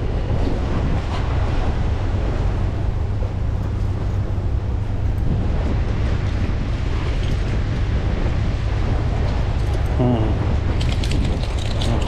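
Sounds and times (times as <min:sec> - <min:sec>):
choppy water slapping: 0:00.0 - 0:12.0
wind buffeting microphone: 0:00.0 - 0:12.0.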